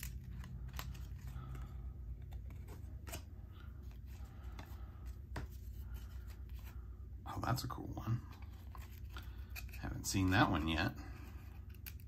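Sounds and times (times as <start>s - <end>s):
trading cards being handled: 0.0s - 7.0s, 8.2s - 12.0s
steady low hum: 0.0s - 12.0s.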